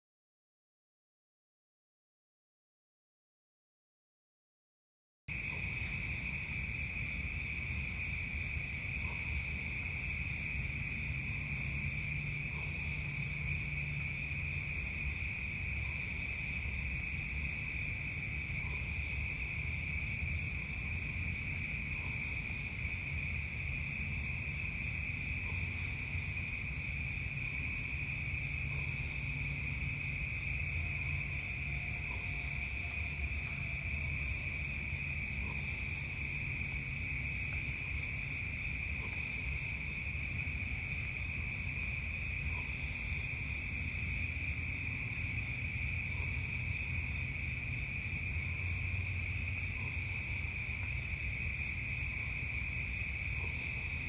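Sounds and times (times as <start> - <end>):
high-pitched insect call: 5.3 - 54.0
insects trilling: 5.3 - 54.0.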